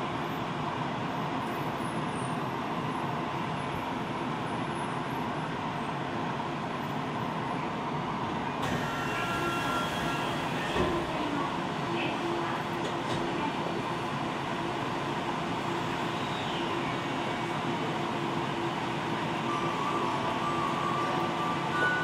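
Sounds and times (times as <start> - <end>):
subway wheels rumbling: 0.0 - 22.0.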